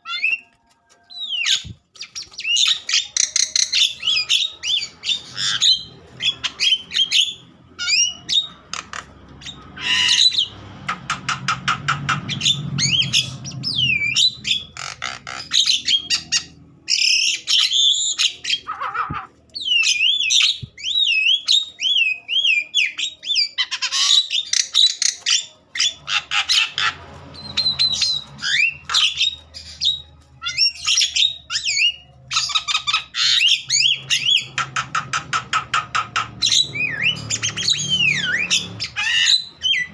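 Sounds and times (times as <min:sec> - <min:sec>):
bird harsh chatter and whistles: 0:00.0 - 0:00.5, 0:01.1 - 0:39.9.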